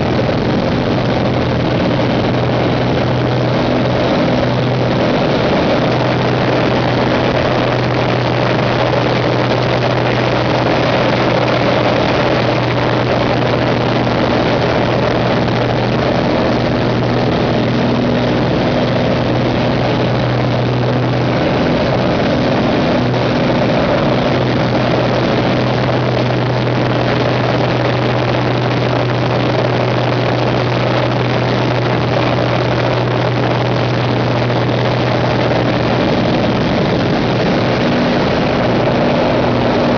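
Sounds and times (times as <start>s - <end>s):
airplane engine and propeller: 0.0s - 39.9s
loud rushing airflow: 0.0s - 39.9s.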